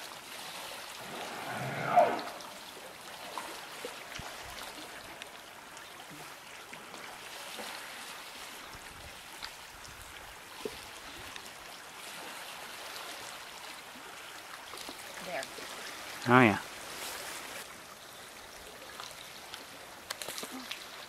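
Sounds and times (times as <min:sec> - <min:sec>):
small water splashes: 0:00.0 - 0:21.0
water lapping and trickling: 0:00.0 - 0:21.0.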